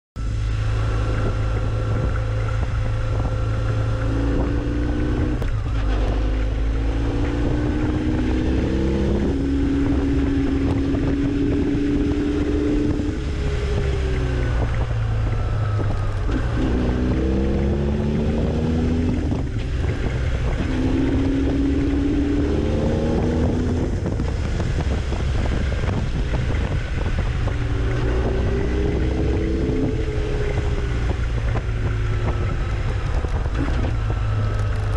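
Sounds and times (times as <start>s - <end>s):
vehicle engine shifting gears: 0.2s - 34.9s
wind noise on microphone: 0.2s - 34.9s.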